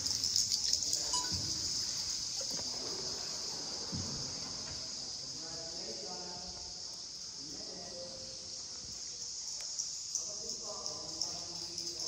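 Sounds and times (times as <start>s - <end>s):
faint water sounds: 0.0s - 12.0s
insects chirring: 0.0s - 12.0s.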